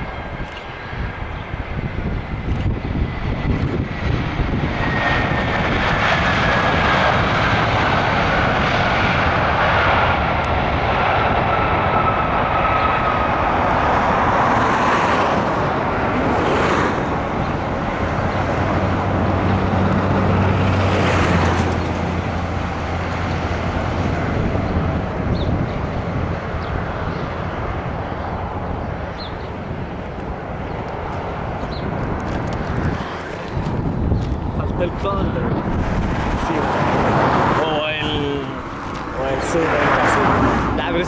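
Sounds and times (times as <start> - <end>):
jet engines rushing and whining: 0.0 - 41.0.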